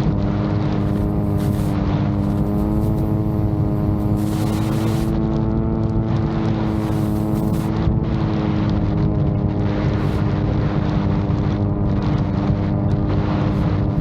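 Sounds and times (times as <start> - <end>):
wind buffeting microphone: 0.0 - 14.0
drone propellers whirring: 0.6 - 14.0.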